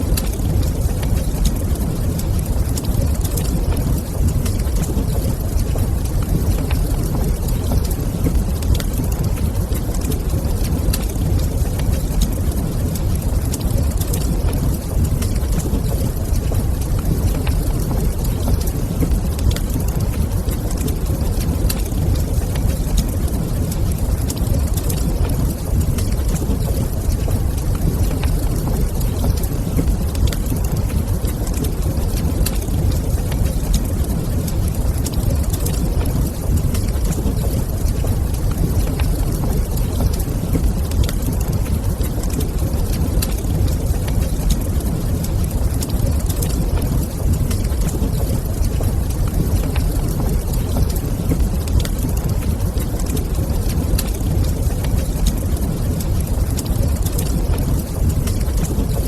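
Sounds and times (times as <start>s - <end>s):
fire crackling and popping: 0.0s - 59.0s
steady low rumble: 0.0s - 59.0s.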